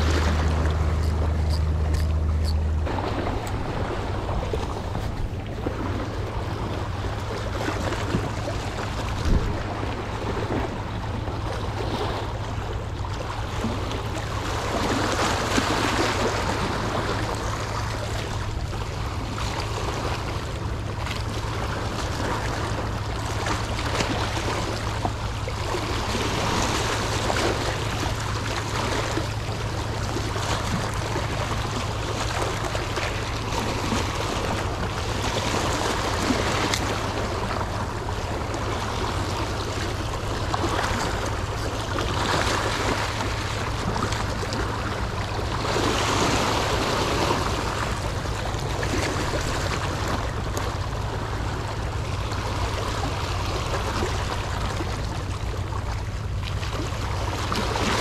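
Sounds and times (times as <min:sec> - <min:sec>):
sea water splashing: 0:00.0 - 0:58.0
steady low hum: 0:00.0 - 0:58.0.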